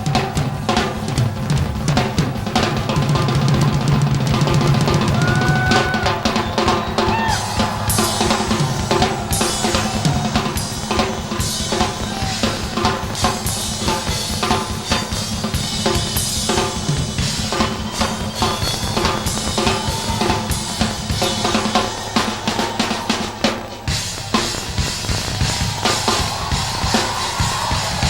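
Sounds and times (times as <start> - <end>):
drum solo: 0.0 - 28.0.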